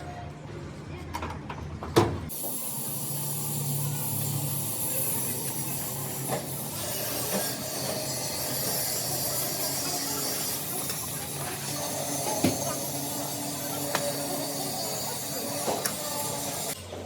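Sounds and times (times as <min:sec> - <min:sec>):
workshop machinery humming: 0:02.3 - 0:17.0.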